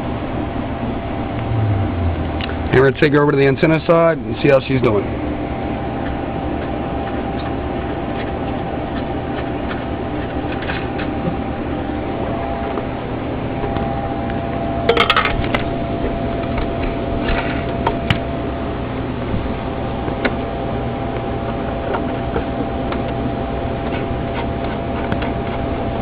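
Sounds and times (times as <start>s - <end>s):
steady background hum and hiss: 0.0s - 26.0s.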